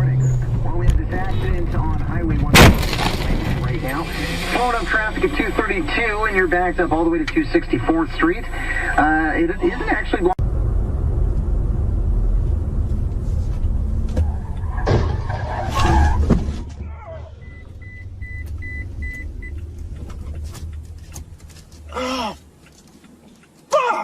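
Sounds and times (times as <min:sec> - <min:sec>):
car road and engine rumble: 0:00.0 - 0:23.9.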